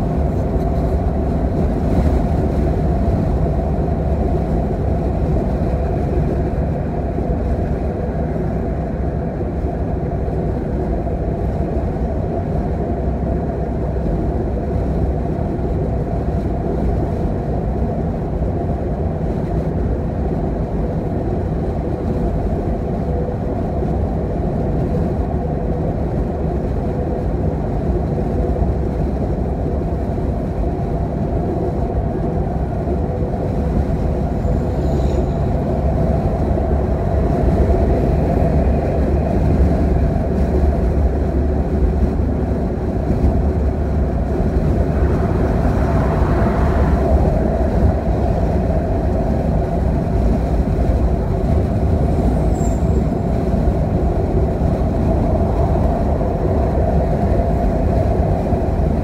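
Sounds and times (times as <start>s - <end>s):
car tyres and engine rumble: 0.0s - 59.0s.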